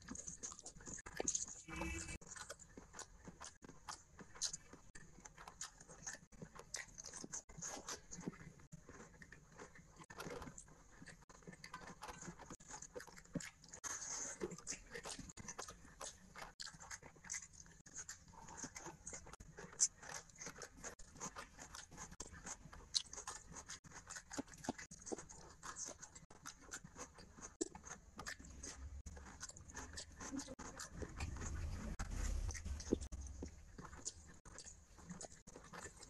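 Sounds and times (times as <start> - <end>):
wet chewing: 0.0 - 36.0.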